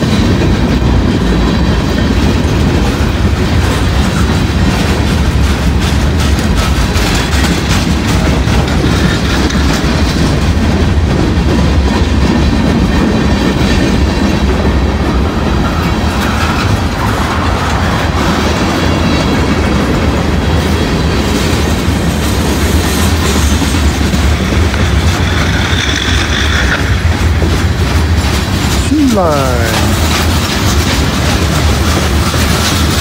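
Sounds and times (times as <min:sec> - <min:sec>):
freight train rolling past: 0:00.0 - 0:33.0.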